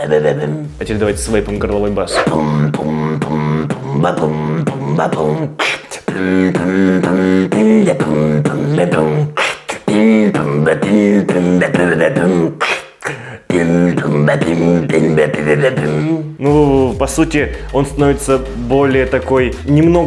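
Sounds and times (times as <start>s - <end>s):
beatboxing: 0.0s - 20.0s.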